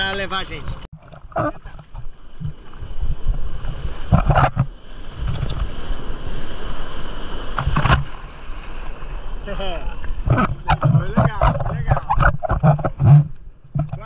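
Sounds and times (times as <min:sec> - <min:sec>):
sea surf splashing: 0:00.0 - 0:14.0.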